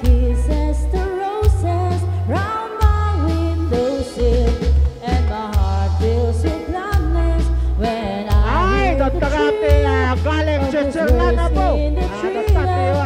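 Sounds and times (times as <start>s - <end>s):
woman singing into microphone: 0.0s - 10.2s, 10.8s - 13.0s
drum kit: 0.0s - 13.0s
electric bass: 0.0s - 13.0s
keyboard: 0.0s - 13.0s.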